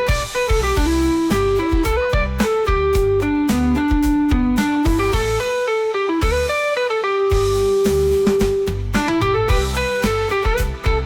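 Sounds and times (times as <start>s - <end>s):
steady drum beat: 0.0s - 5.5s, 7.3s - 11.0s
bass: 0.0s - 6.7s, 7.3s - 11.0s
guitar melody: 0.0s - 11.0s.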